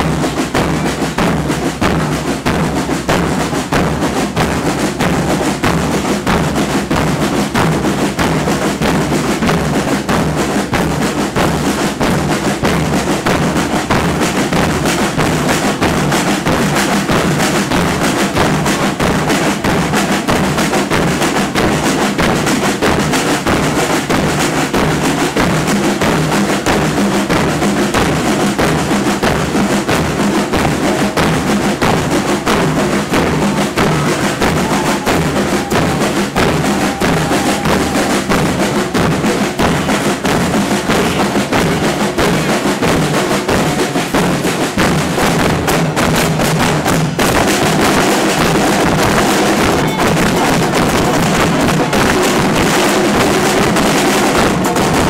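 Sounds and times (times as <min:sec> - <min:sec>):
bass drums: 0:00.0 - 0:55.0
cymbals: 0:00.0 - 0:55.0
snare drums: 0:00.0 - 0:55.0.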